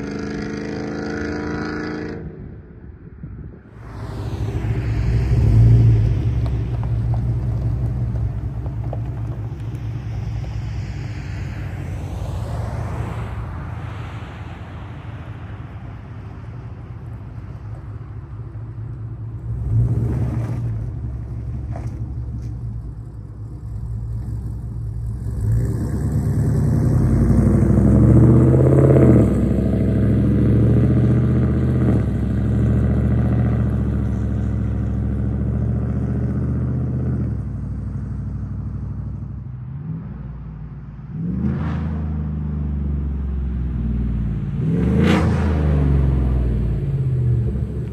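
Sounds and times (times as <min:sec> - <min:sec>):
truck engine exhaust: 0:00.0 - 0:47.9.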